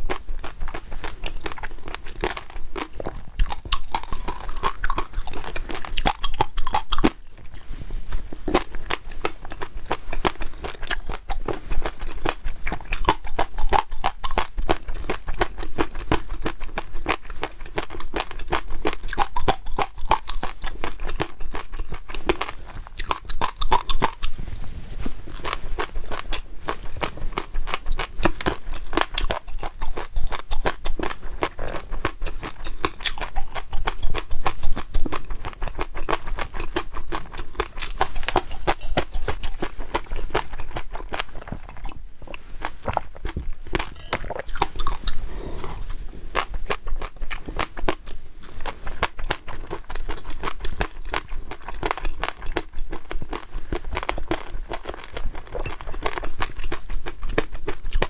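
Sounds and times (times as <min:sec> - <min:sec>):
crunchy food being chewed: 0:00.0 - 0:58.0.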